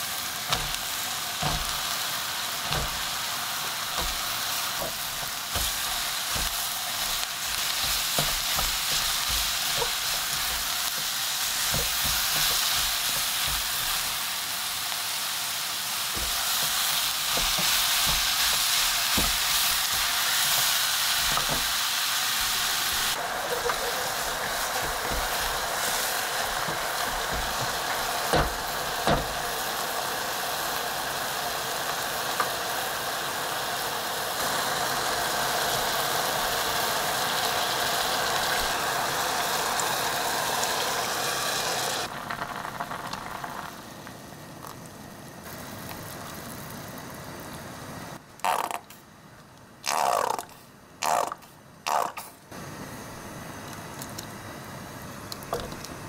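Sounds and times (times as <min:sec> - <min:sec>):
vegetables sizzling in a pot: 0:00.0 - 0:48.8.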